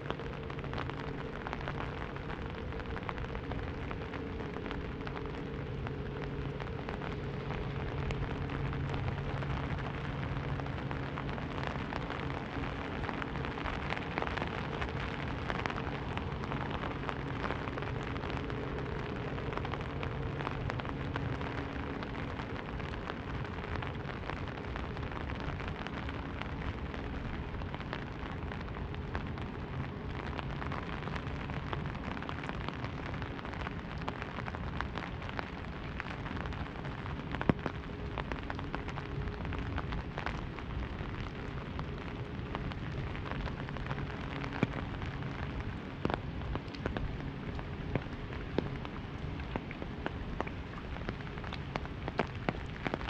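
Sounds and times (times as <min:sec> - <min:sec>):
rain drumming on umbrella: 0:00.0 - 0:53.0.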